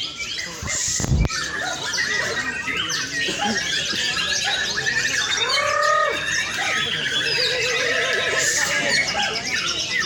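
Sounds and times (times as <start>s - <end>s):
birds singing whistles and chirps: 0.0s - 10.0s.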